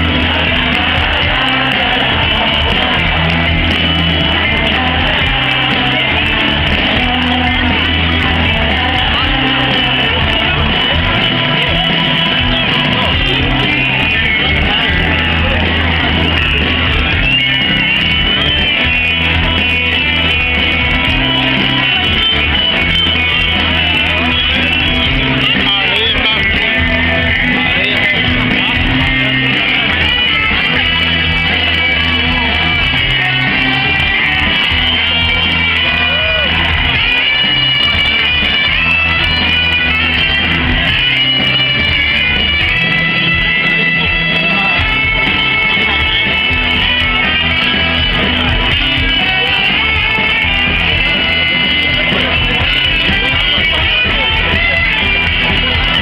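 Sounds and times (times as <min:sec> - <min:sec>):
electric bass: 0:00.0 - 0:56.0
electric guitar: 0:00.0 - 0:56.0
live pop-rock band playing: 0:00.0 - 0:56.0.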